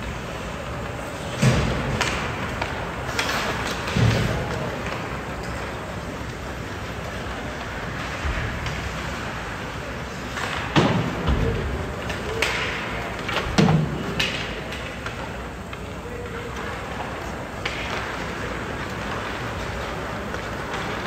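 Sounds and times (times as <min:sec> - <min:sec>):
hockey sticks and puck clacking: 0:00.0 - 0:21.0.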